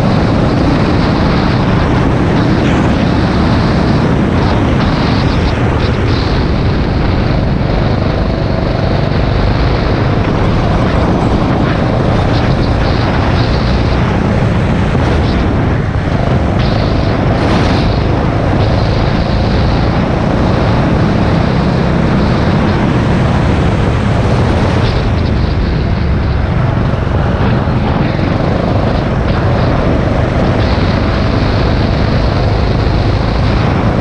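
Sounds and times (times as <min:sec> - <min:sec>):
go-kart engine racing: 0:00.0 - 0:34.0
road noise: 0:00.0 - 0:34.0
wind noise: 0:00.0 - 0:34.0.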